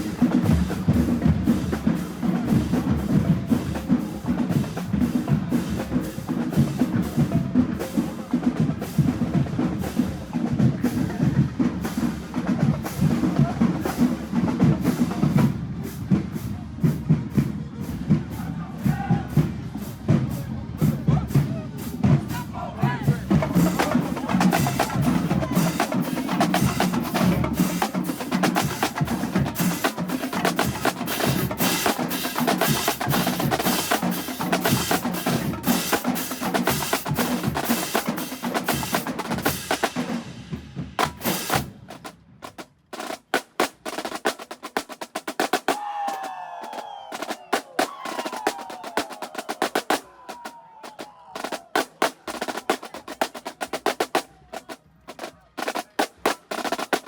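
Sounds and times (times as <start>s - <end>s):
drumline playing cadence: 0.0s - 57.0s.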